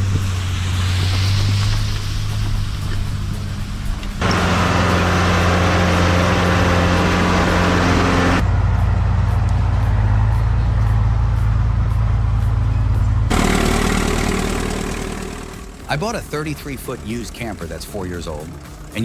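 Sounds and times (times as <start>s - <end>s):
deep engine drone: 0.0s - 19.0s
heavy machinery engines running: 0.0s - 19.0s.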